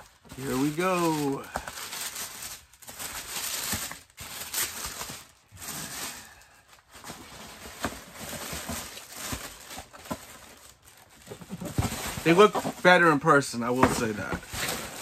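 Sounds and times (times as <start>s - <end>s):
tissue paper rustling and crinkling: 0.0s - 15.0s.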